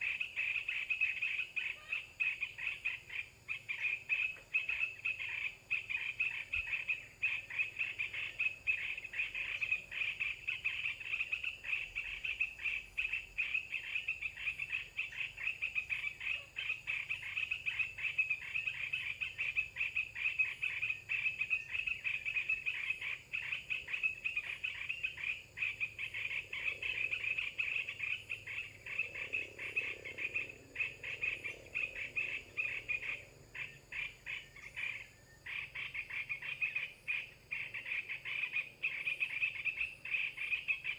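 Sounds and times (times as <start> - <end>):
high-pitched chirring animal chorus: 0.0 - 40.9.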